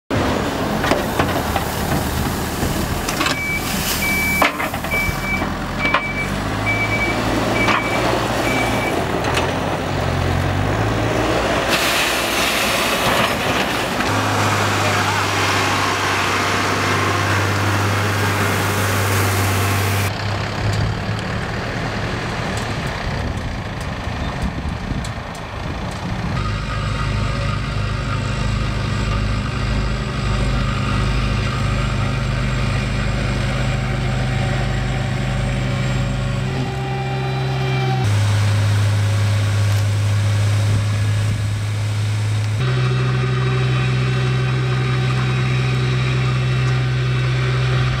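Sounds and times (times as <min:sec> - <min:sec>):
diesel engine hum: 0:00.1 - 0:48.0.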